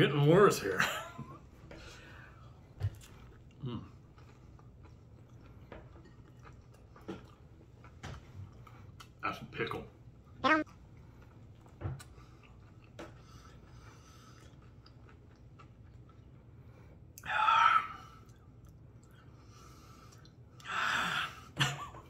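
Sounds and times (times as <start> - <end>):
man chewing food: 1.2 - 9.2, 10.0 - 17.3, 18.1 - 20.8.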